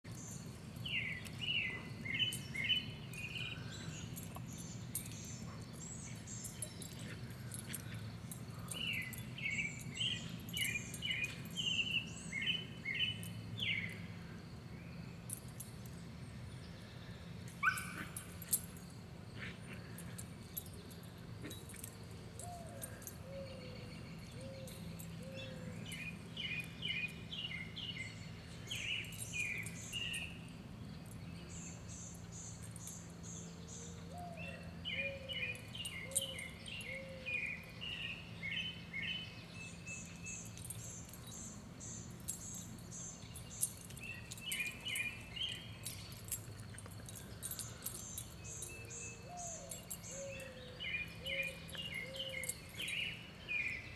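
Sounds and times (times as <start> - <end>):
songbird chirping: 0.0 - 53.9.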